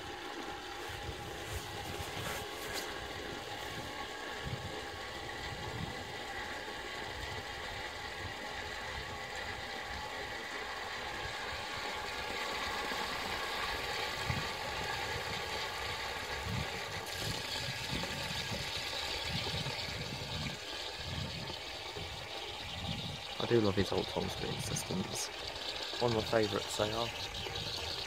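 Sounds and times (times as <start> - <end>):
water hissing into cistern: 0.0 - 28.0.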